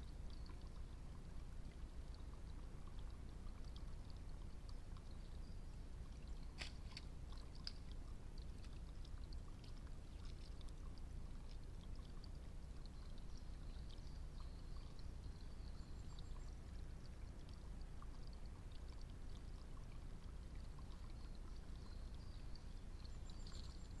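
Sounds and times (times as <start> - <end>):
faint outdoor background noise: 0.0 - 24.0.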